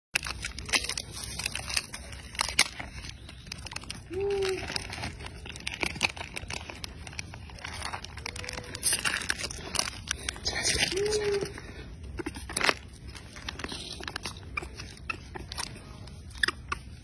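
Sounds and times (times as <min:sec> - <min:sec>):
plastic wrapper crinkling: 0:00.2 - 0:17.0.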